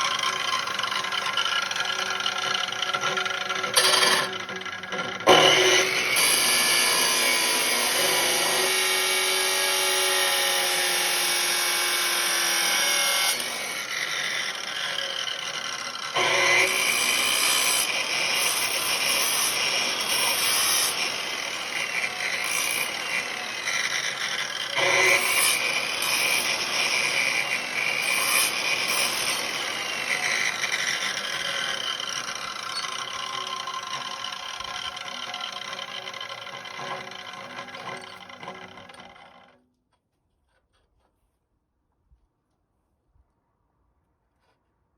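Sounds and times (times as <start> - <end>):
power tool running: 0.0 - 39.6.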